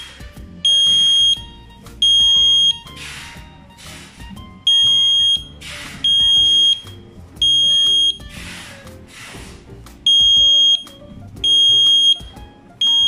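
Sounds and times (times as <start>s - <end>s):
smoke alarm beeps: 0.0s - 8.4s, 10.0s - 13.0s
background music: 0.0s - 13.0s.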